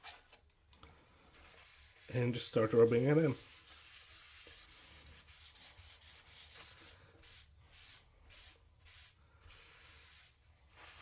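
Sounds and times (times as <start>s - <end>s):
paper towel wiping wood: 1.4s - 11.0s.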